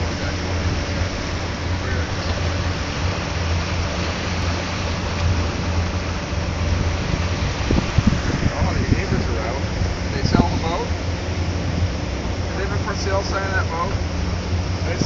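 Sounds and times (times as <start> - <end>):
motorboat engine drone: 0.0 - 15.0
water and wind rushing: 0.0 - 15.0.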